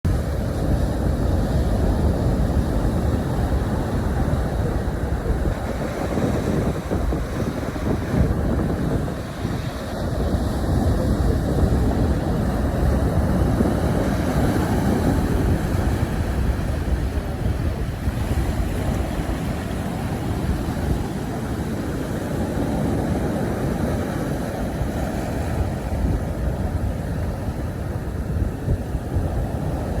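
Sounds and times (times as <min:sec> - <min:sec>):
sea surf washing on shore: 0:00.1 - 0:30.0
wind buffeting microphone: 0:00.1 - 0:30.0.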